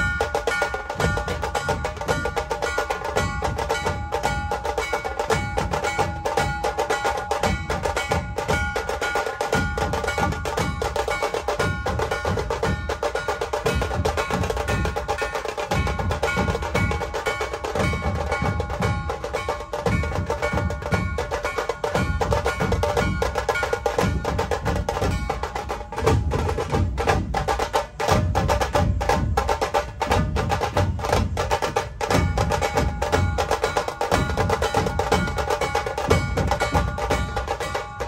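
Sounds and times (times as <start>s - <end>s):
fast driving drumming: 0.0s - 38.0s.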